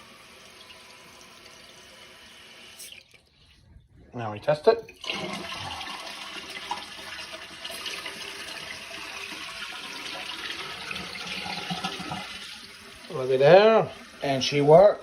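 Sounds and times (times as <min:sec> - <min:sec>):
toilet flushing: 0:00.0 - 0:03.3, 0:04.8 - 0:15.0.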